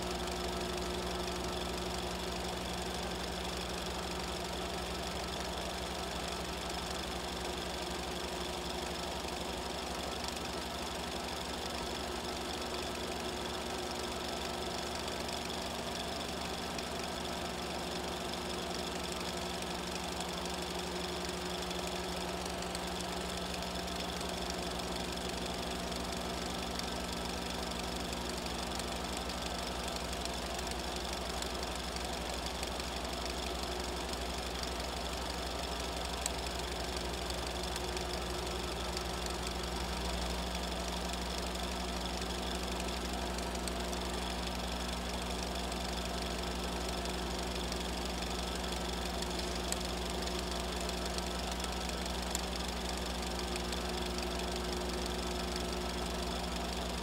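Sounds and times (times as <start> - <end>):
small machine humming and rattling: 0.0 - 57.0.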